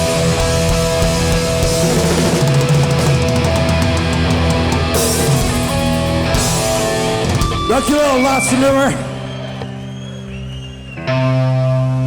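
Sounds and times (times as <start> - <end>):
punk band playing live: 0.0 - 12.0.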